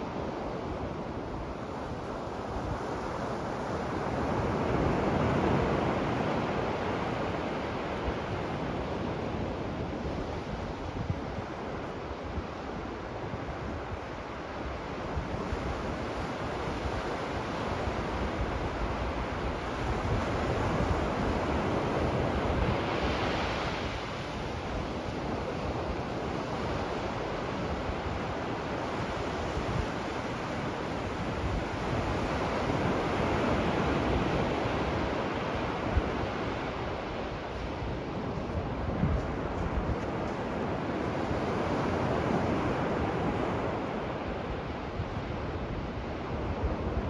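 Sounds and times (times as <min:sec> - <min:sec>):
ocean waves breaking on beach: 0:00.0 - 0:47.0.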